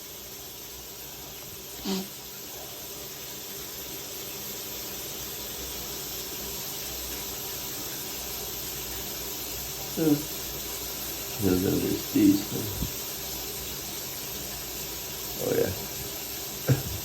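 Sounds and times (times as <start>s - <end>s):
steam hissing off hot water: 0.0s - 17.0s.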